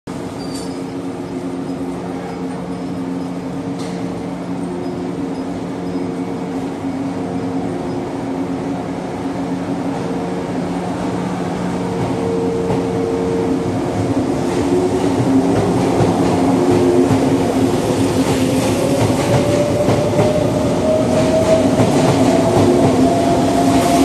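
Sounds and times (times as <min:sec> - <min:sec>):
electric train humming: 0:00.1 - 0:24.0.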